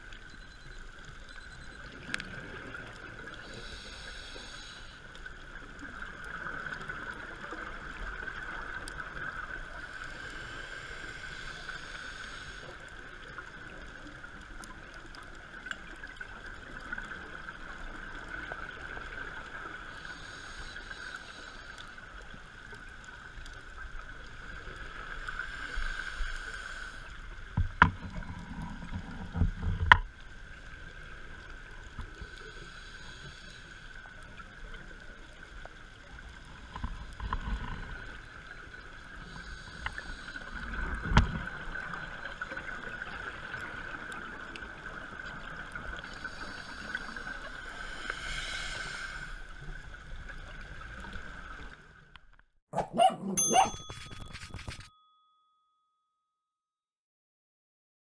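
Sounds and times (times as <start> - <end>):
underwater hum: 0.0 - 54.9
soft hiss: 2.1 - 28.2, 30.2 - 52.0.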